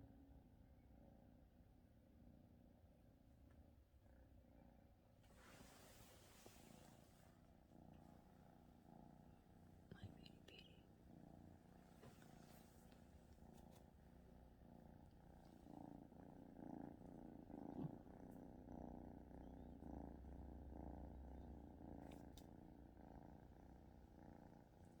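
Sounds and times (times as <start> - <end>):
cat purring: 0.1 - 25.0.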